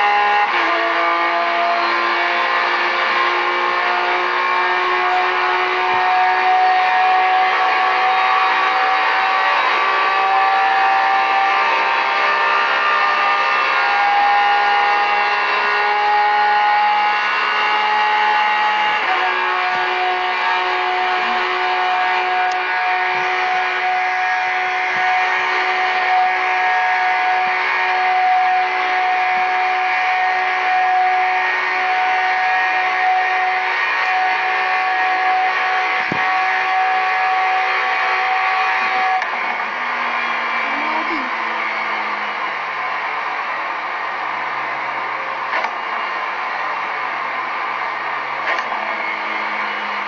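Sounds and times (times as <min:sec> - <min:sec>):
car engine at high revs: 0:00.0 - 0:50.0.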